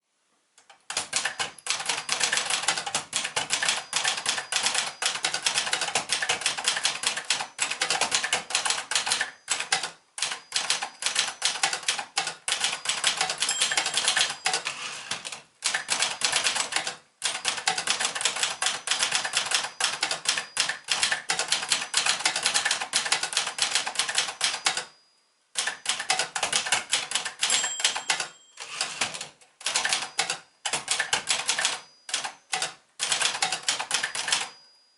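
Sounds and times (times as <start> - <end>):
typewriter key strikes: 0.9 - 24.9, 25.6 - 34.6.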